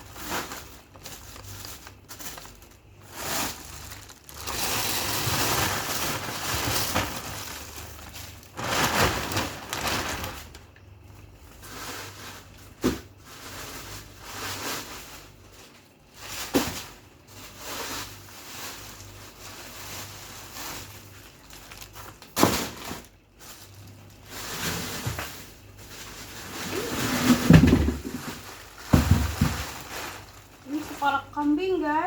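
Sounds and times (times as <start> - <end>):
frozen packages knocking: 0.0 - 10.8, 11.4 - 15.5, 16.3 - 31.8
plastic rustling: 0.0 - 32.0.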